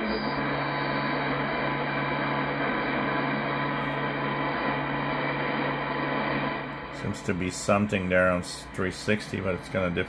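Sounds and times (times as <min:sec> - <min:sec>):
low hum: 0:00.0 - 0:10.0
radio static hiss: 0:00.0 - 0:10.0.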